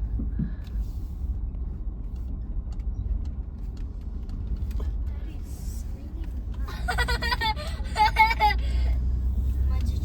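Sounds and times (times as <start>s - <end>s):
vehicle engine and tyres rumbling: 0.0s - 10.0s.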